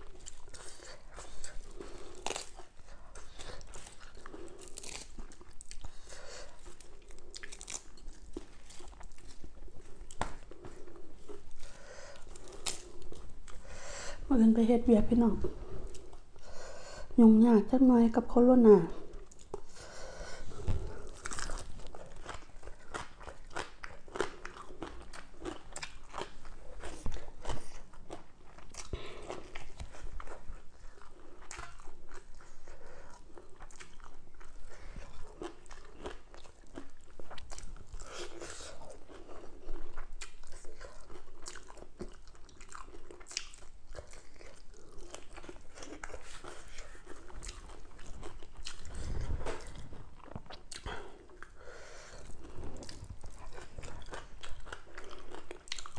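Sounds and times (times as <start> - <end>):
chewing crisp food: 0.0 - 13.8, 19.0 - 55.9.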